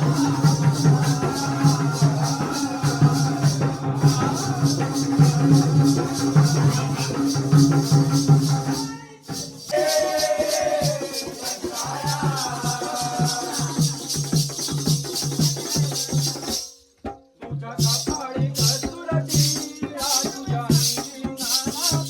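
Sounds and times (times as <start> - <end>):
jingling percussion: 0.0 - 22.0.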